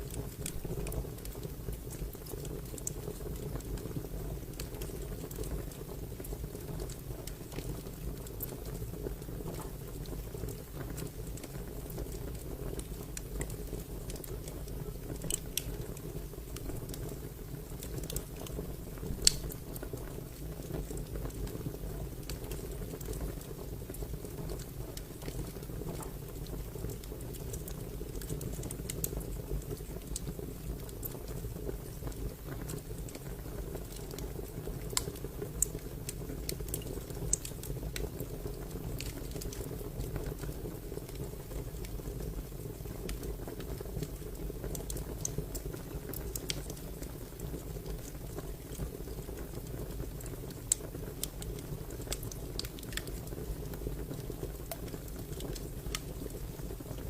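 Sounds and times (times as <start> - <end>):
fire crackling with pops: 0.0 - 57.0.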